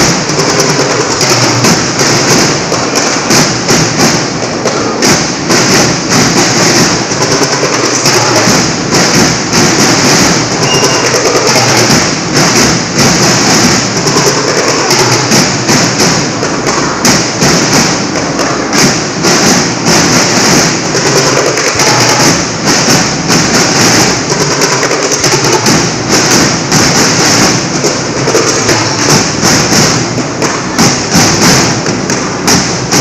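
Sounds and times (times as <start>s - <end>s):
marching snare and bass drums: 0.0s - 33.0s.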